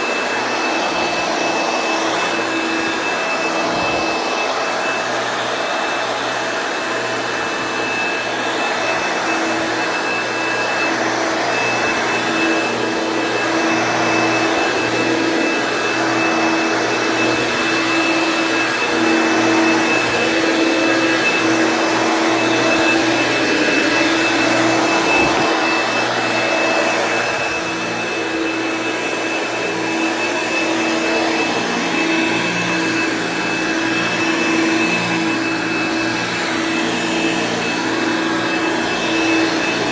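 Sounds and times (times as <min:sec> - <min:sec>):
vacuum cleaner motor whining: 0:00.0 - 0:39.9.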